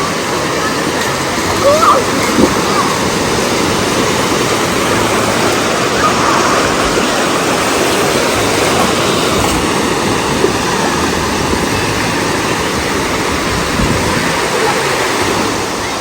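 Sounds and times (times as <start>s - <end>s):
waves breaking on a beach: 0.0s - 16.0s.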